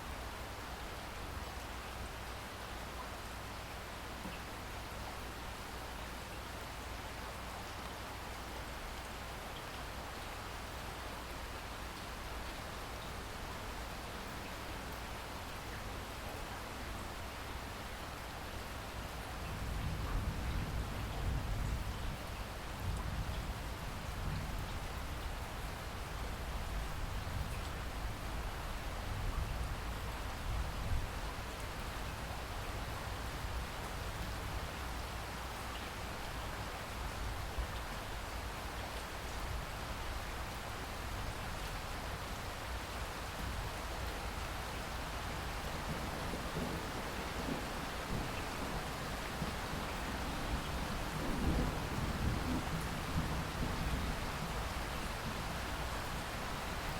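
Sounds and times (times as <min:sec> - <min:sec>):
rain falling steadily: 0:00.0 - 0:56.9.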